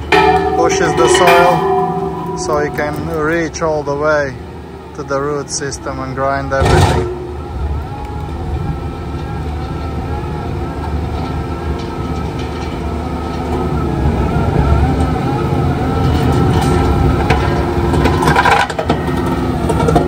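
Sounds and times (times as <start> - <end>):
skid-steer running under load: 0.0 - 20.0.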